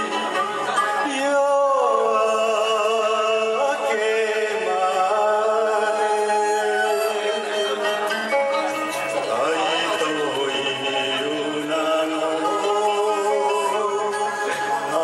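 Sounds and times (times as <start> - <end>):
karaoke backing track: 0.0 - 15.0
man singing into microphone: 0.0 - 15.0.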